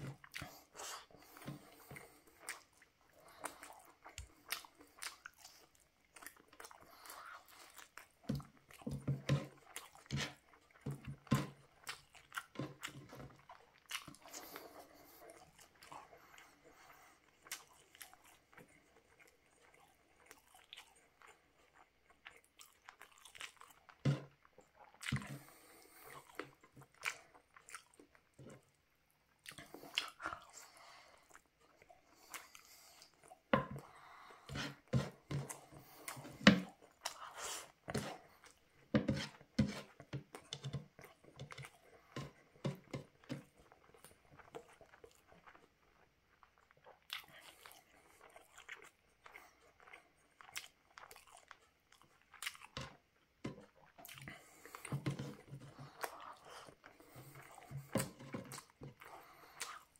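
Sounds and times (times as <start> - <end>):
man chewing food: 0.0 - 59.9.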